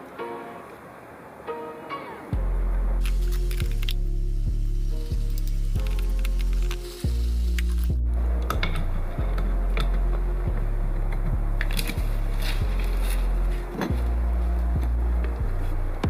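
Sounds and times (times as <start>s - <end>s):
bass line music: 2.4s - 16.0s.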